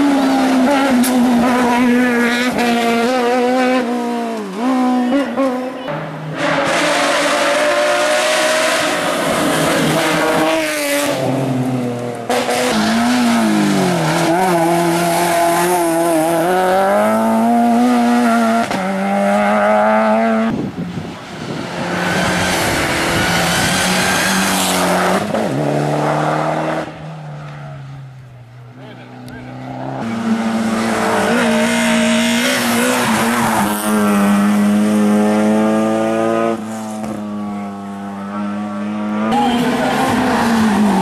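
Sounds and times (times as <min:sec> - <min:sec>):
race car engine revving: 0:00.0 - 0:20.6, 0:21.2 - 0:27.0, 0:28.7 - 0:41.0.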